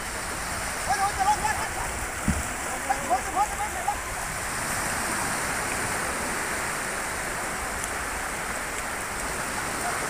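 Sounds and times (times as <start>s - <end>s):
surf rushing hiss: 0.0s - 10.0s.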